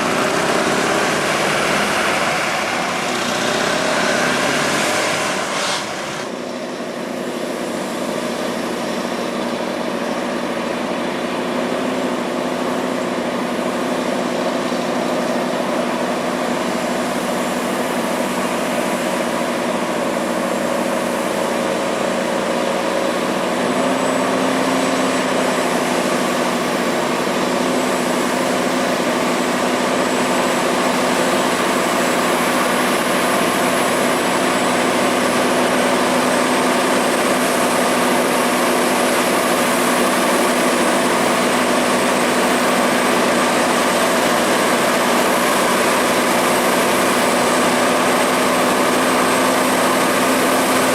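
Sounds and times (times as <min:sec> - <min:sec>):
truck engine droning under load: 0:00.0 - 0:50.9.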